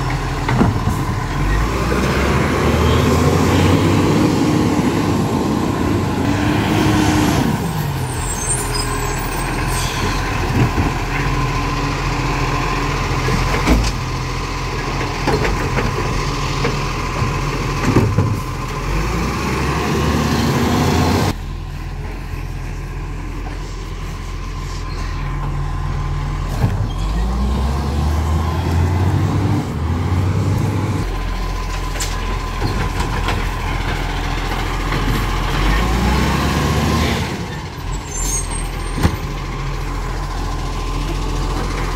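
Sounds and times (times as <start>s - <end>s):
diesel truck engine revving: 0.0s - 41.9s.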